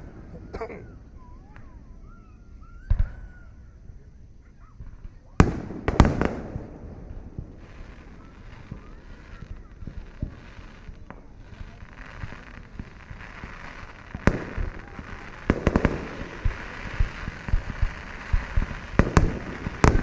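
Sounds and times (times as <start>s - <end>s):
distant fireworks bangs: 0.0s - 20.0s.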